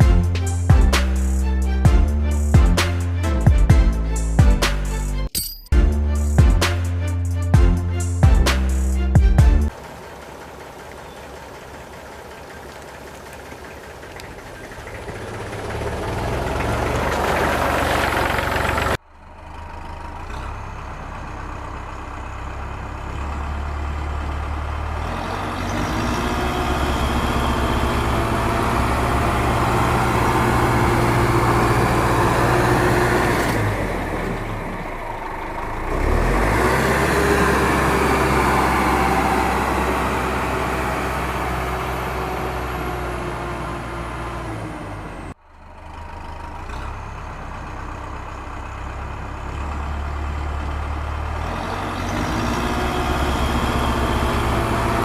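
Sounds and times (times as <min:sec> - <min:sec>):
engine running with low hum: 0:00.0 - 0:55.0.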